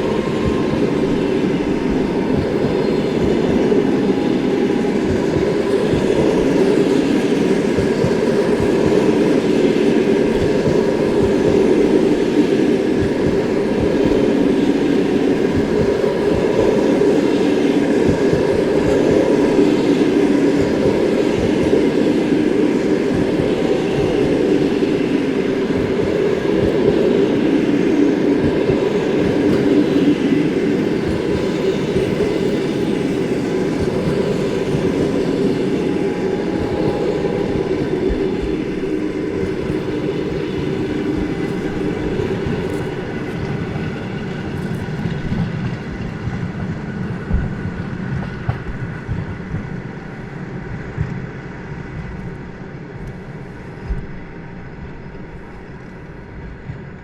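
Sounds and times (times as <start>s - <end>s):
wheels clattering on rails: 0.0s - 53.2s
train carriages rumbling: 0.0s - 57.0s.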